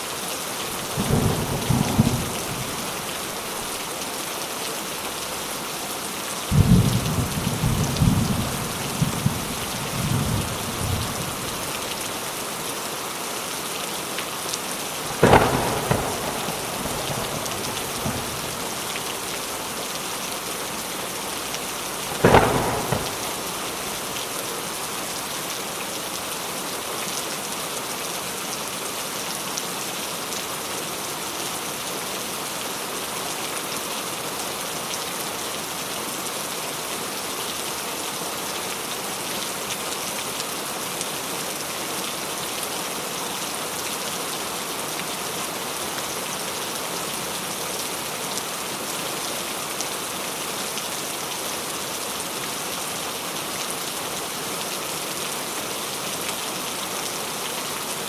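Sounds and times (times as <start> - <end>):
rain hitting a surface: 0.0 - 58.0.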